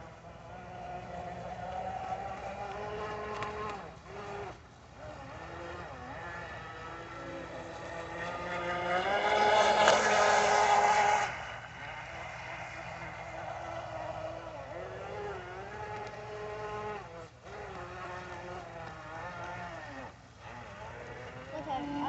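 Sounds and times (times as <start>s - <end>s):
radio-controlled boat motor whine: 0.0s - 22.0s.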